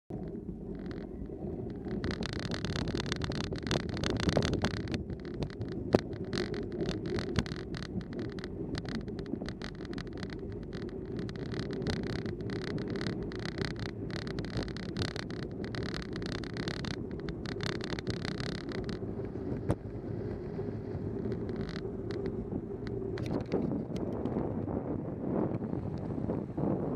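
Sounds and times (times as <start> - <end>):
bicycle rolling noise: 0.1 - 26.9
wind buffeting microphone: 0.1 - 26.9.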